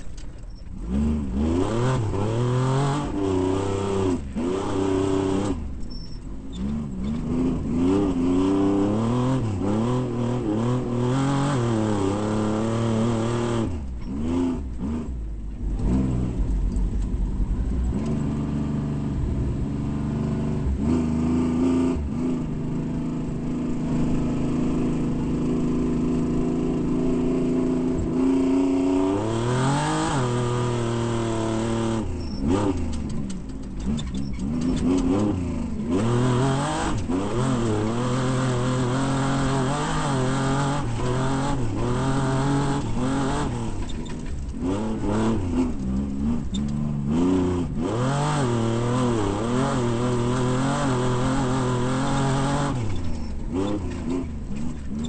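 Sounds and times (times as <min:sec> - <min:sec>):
race vehicle engine revving: 0:00.6 - 0:55.0.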